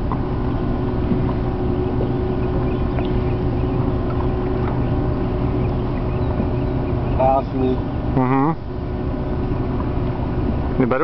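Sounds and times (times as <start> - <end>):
marine engine drone: 0.0 - 11.0.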